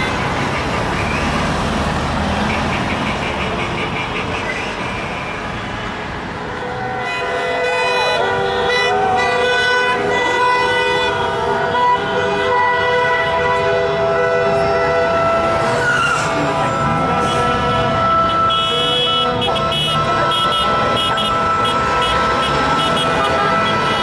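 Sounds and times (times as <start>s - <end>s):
cars driving past: 0.0s - 11.7s, 13.9s - 24.0s
car horns honking: 2.4s - 24.0s.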